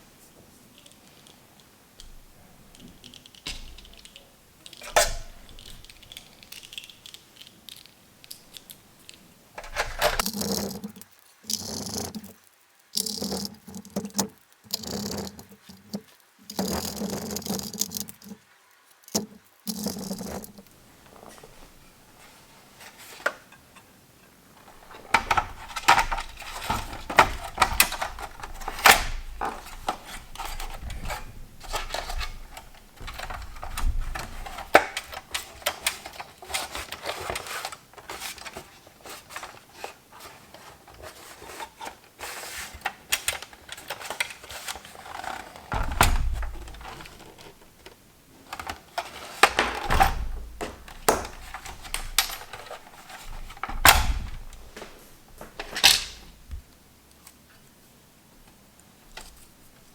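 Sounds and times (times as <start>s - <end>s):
small parts clicking and rattling: 0.7s - 23.9s, 24.6s - 57.4s.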